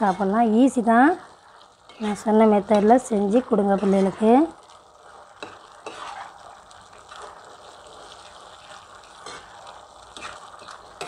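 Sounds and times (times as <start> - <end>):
sauce sizzling and bubbling: 0.0 - 11.0
spatula scraping pan: 1.8 - 11.0.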